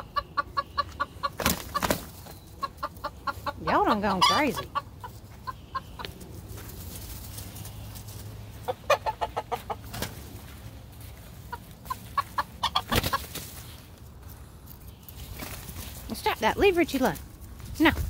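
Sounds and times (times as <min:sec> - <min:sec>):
roosters clucking: 0:00.0 - 0:18.0.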